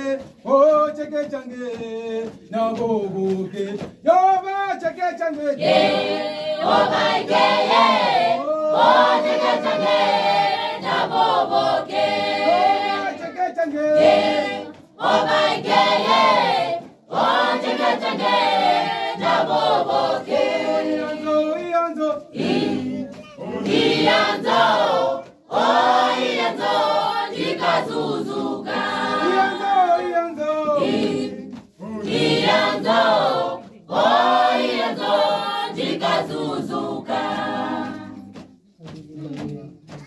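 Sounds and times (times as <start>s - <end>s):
mixed choir singing a cappella: 5.6s - 40.0s.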